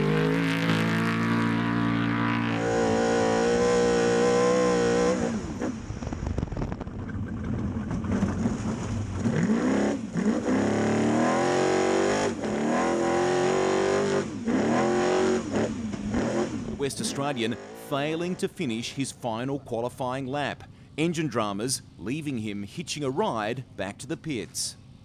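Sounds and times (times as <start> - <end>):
truck engine revving: 0.0 - 6.1, 7.1 - 24.6.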